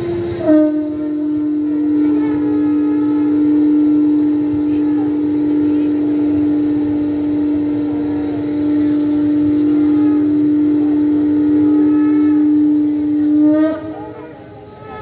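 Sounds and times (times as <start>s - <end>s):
conch shell blown: 0.0s - 15.0s.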